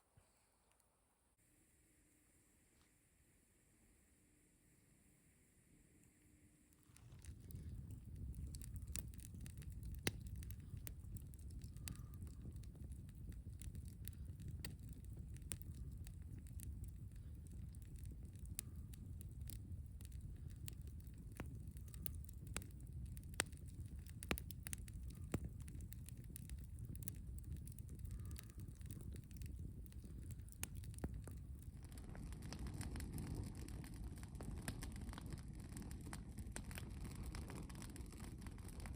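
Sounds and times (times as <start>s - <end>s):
low rumble of fire: 5.0s - 38.9s
campfire crackling and popping: 6.6s - 38.9s.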